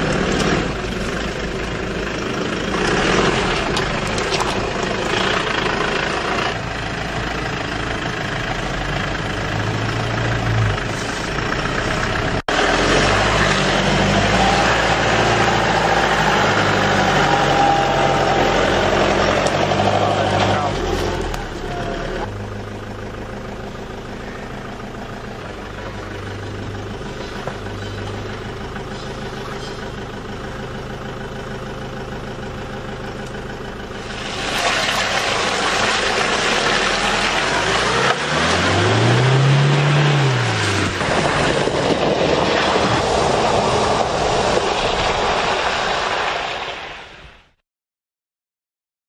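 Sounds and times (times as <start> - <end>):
pickup engine running at low revs: 0.0 - 46.8.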